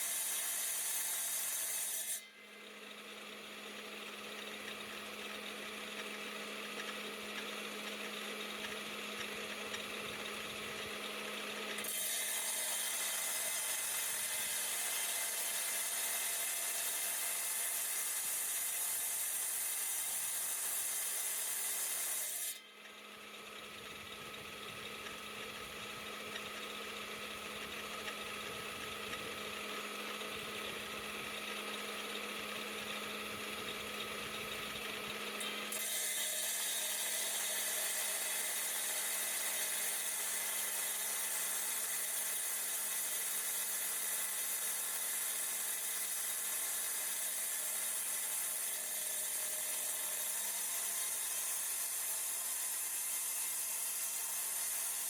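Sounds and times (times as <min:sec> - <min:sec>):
rock saw motor hum: 0:00.0 - 0:18.8, 0:22.2 - 0:55.0.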